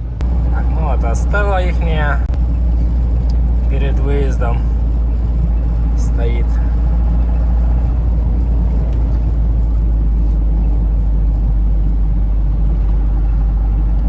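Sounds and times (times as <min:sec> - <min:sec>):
road noise: 0:00.0 - 0:14.0
truck diesel engine drone: 0:00.0 - 0:14.0.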